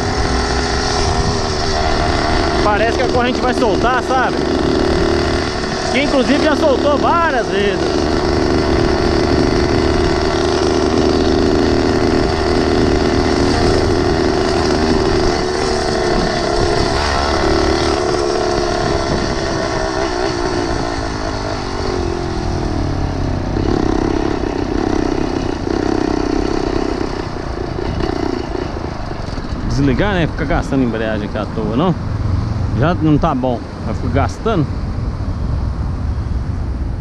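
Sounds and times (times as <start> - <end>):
small motorized bicycle engine: 0.0 - 30.3.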